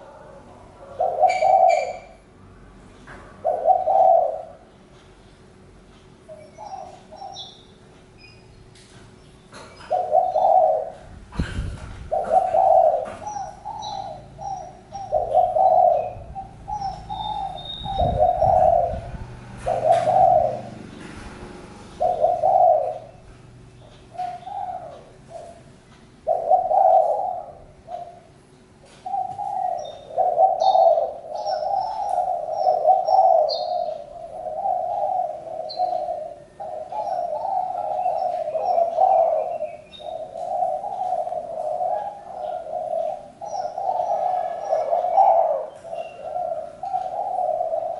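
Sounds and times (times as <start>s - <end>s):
dove cooing: 0.0s - 2.3s, 3.4s - 4.7s, 6.3s - 7.6s, 9.5s - 47.9s
small birds chirping: 0.8s - 2.2s, 2.9s - 47.9s.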